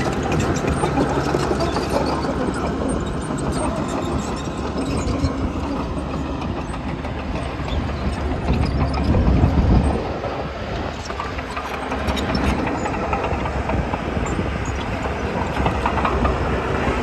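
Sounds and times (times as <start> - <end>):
diesel engine under load: 0.0 - 17.0
steel tracks clanking: 0.0 - 17.0.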